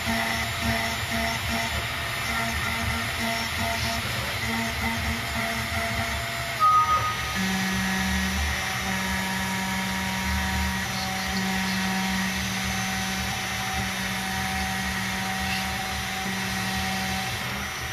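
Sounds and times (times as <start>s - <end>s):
metal cutting noise: 0.0s - 17.9s
milling machine spindle humming: 0.0s - 17.9s.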